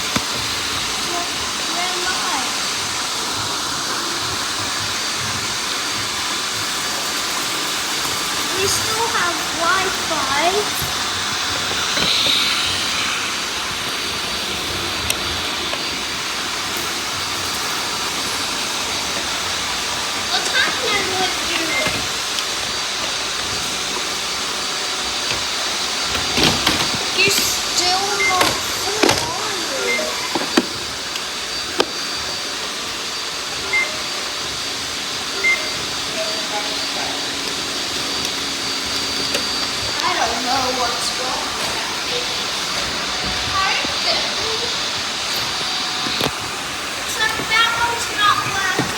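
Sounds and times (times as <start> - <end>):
vacuum cleaners droning: 0.0 - 48.9.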